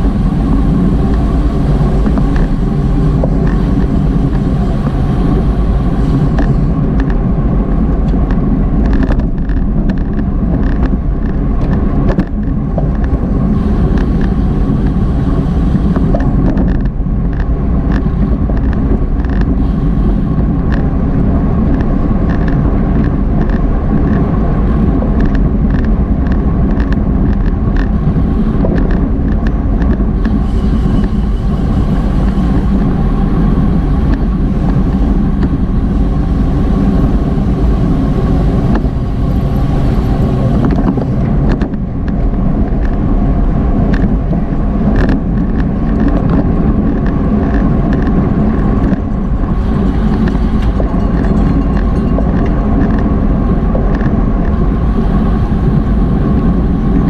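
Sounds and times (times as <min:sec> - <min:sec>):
wind noise on microphone: 0:00.0 - 0:57.0
regular ticks: 0:00.2 - 0:21.0, 0:21.6 - 0:24.4, 0:25.1 - 0:43.1, 0:43.8 - 0:57.0.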